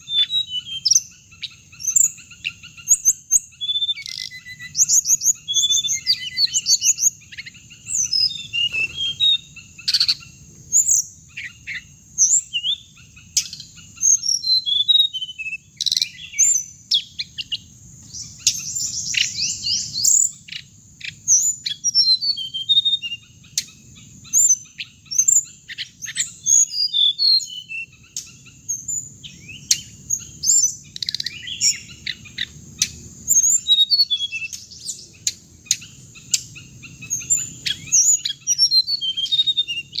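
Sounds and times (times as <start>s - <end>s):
birds chirping and trilling: 0.0s - 40.0s
high insect-like hum: 0.0s - 40.0s.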